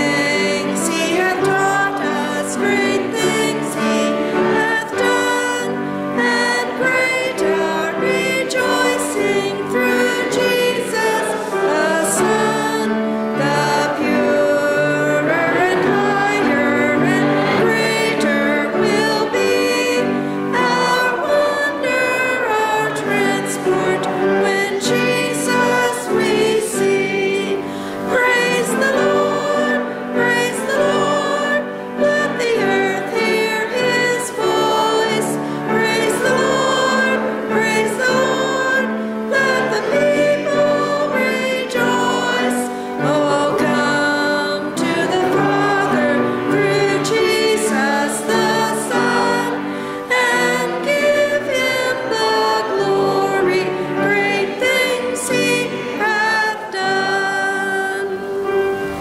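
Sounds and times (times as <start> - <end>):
congregation singing a hymn: 0.0 - 59.0
piano accompaniment: 0.0 - 59.0.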